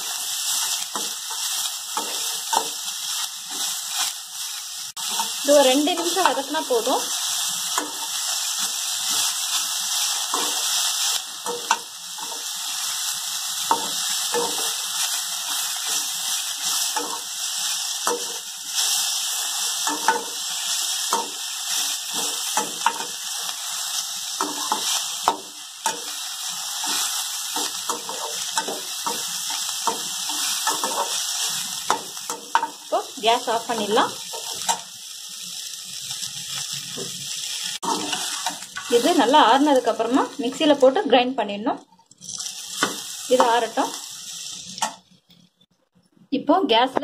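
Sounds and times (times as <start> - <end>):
spatula scraping a pan: 0.0 - 4.2, 5.0 - 33.0, 36.6 - 40.7, 41.9 - 45.7
vegetables sizzling in hot oil: 0.0 - 45.6.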